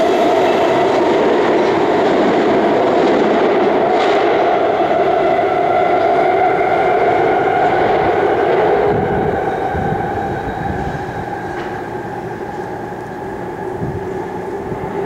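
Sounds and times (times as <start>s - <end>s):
subway train running in tunnel: 0.0s - 15.0s.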